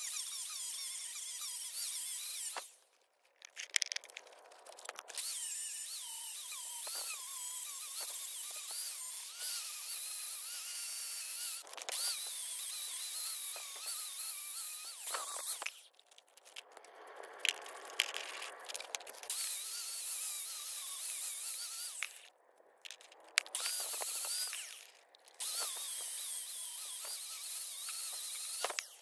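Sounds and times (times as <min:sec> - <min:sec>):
angle grinder grinding metal: 0:00.0 - 0:02.8, 0:04.9 - 0:16.0, 0:17.5 - 0:29.0.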